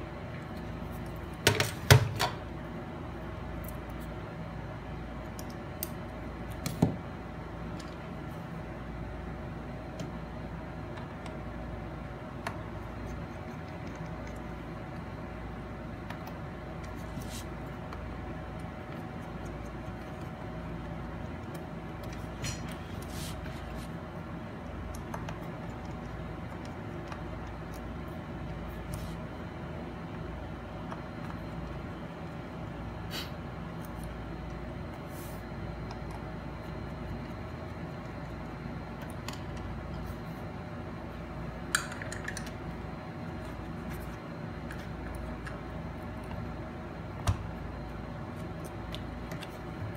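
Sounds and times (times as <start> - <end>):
low background hum: 0.0 - 49.9.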